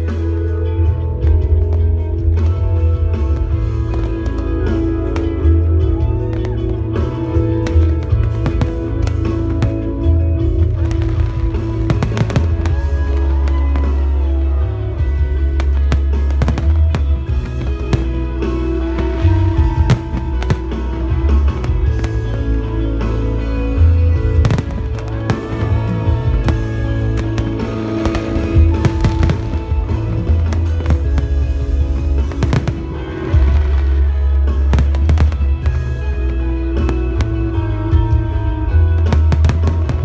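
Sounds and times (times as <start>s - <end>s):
loud music with heavy bass: 0.0s - 40.0s
fireworks crackling: 1.2s - 40.0s.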